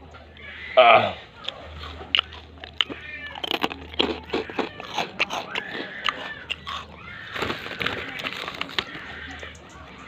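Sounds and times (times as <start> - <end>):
crackers being chewed: 1.3 - 9.5.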